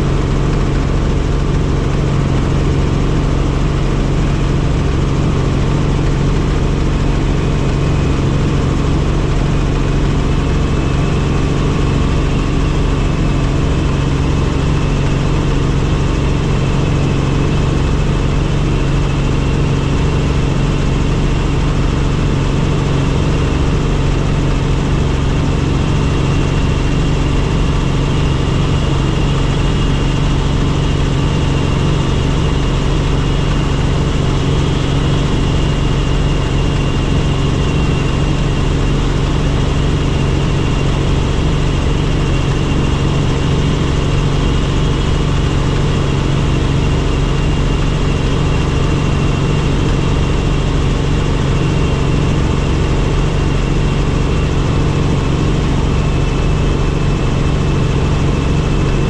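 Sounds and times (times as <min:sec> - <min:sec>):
helicopter engine and rotor noise: 0:00.0 - 0:59.0.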